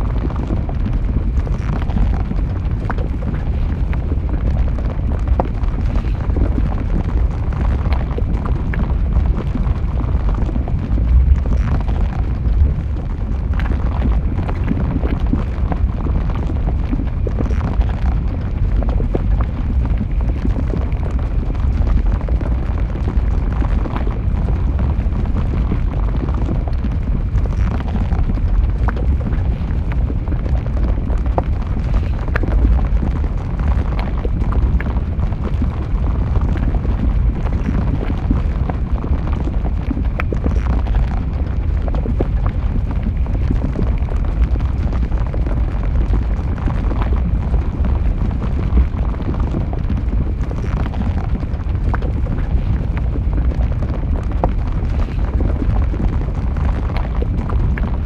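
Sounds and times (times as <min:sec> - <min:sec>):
lava crackles and pops: 0:00.0 - 0:58.0
lava deep rumble: 0:00.0 - 0:58.0.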